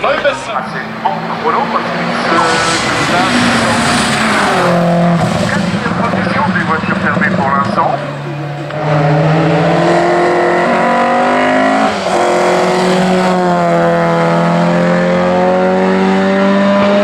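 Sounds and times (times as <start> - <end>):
race car engine at full throttle: 0.0 - 17.0.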